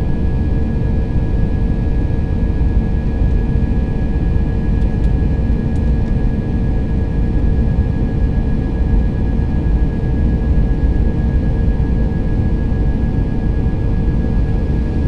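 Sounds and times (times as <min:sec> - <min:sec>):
jet engines roaring in cabin: 0:00.0 - 0:15.0.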